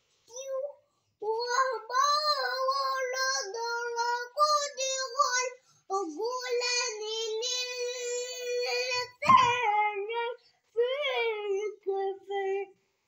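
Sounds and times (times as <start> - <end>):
boy chanting melodically: 0.3 - 12.8.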